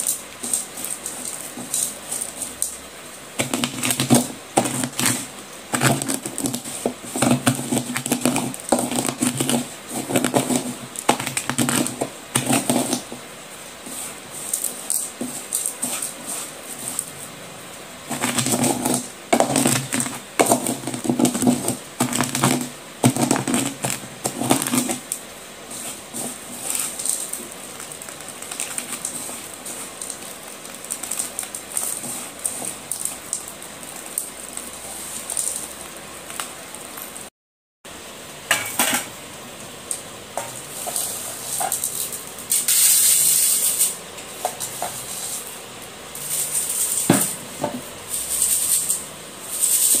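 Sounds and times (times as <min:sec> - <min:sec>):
chips rattling through a sieve: 0:00.0 - 0:13.2, 0:13.8 - 0:17.2, 0:18.1 - 0:37.1, 0:40.5 - 0:50.0.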